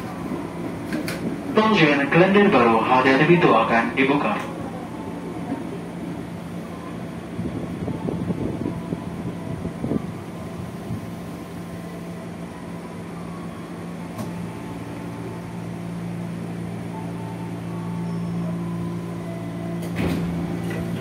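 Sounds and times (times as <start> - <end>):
train equipment humming: 0.0 - 21.0
wheels rumbling on rail: 0.0 - 21.0.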